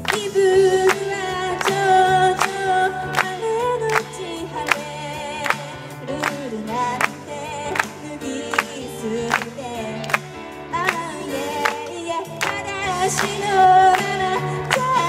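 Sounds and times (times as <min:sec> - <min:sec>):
electronic keyboard: 0:00.0 - 0:15.0
woman singing with vibrato: 0:00.0 - 0:15.0.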